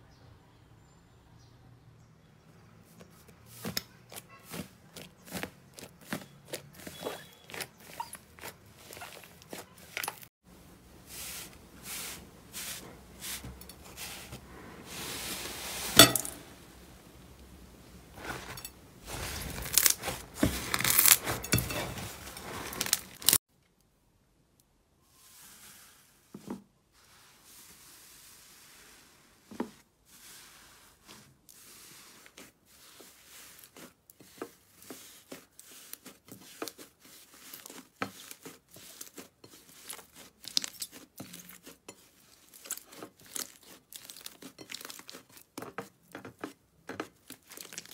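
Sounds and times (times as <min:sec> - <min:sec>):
soft slime squishes: 0:02.6 - 0:23.4, 0:27.0 - 0:47.9.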